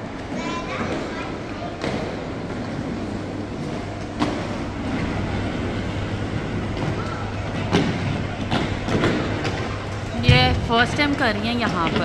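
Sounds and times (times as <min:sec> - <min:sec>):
roller-skate wheels rumbling: 0:00.0 - 0:12.0.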